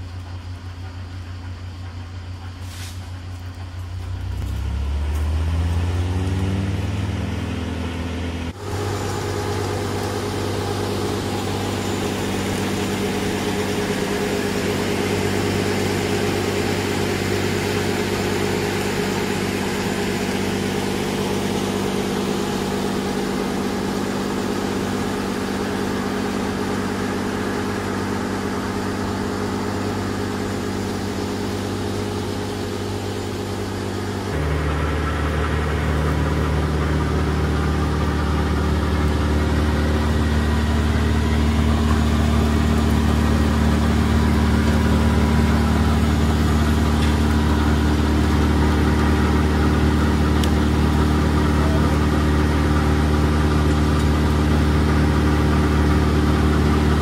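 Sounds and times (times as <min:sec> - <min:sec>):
branch chipper engine running: 0:00.0 - 0:57.0.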